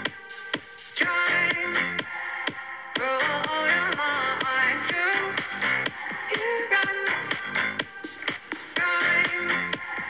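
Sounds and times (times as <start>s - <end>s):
song with steady beat: 0.0s - 10.0s.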